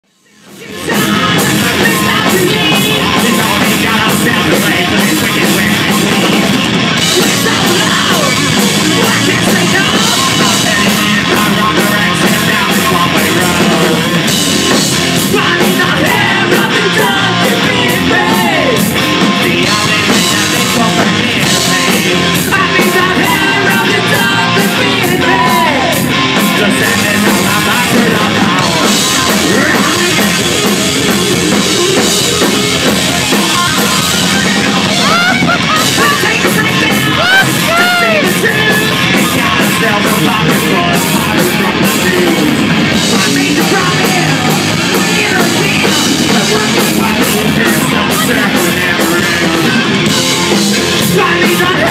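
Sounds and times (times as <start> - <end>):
electric guitar: 0.0 - 51.9
rock band playing: 0.2 - 51.9
singer shouting vocals: 0.2 - 51.9.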